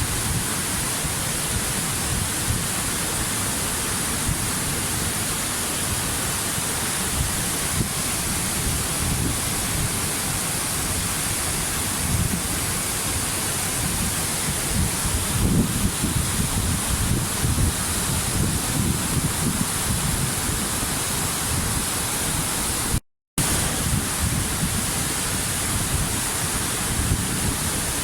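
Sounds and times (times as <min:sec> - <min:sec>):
low rumble of water: 0:00.0 - 0:28.0
waterfall rushing: 0:00.0 - 0:28.0.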